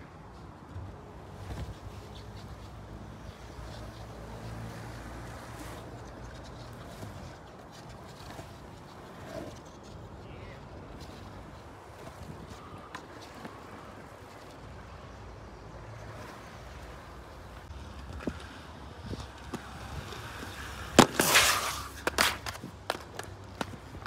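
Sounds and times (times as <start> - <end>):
skater falling and sliding: 0.4 - 24.0
skateboard wheels clicking on concrete: 0.7 - 14.6, 16.1 - 24.0.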